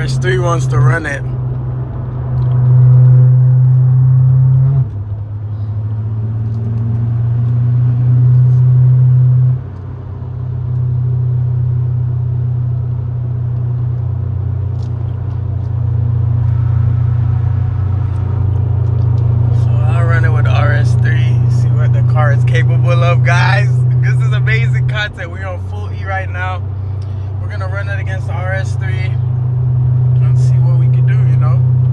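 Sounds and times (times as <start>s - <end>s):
car engine drone from inside cabin: 0.0s - 31.9s.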